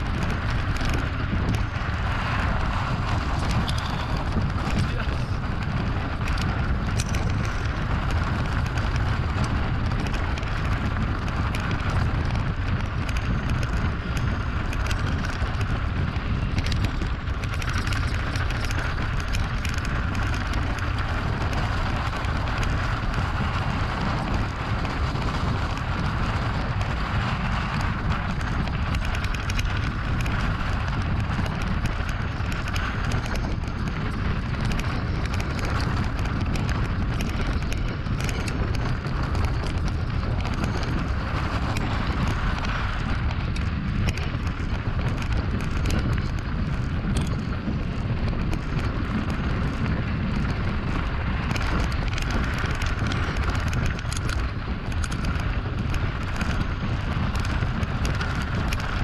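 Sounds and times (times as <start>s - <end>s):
bike tyre noise on stony ground: 0.0s - 59.0s
rattles and clicks: 0.0s - 59.0s
wind rumbling on microphone: 0.0s - 59.0s.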